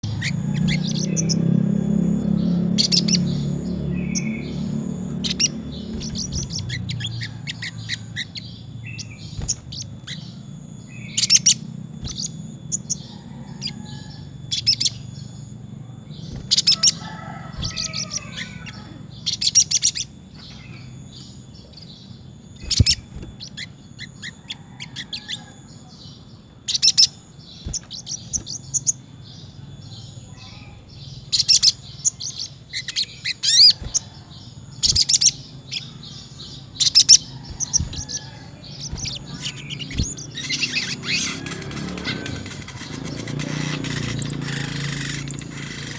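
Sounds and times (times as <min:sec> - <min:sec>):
bird chirping and trilling: 0:00.0 - 0:45.9.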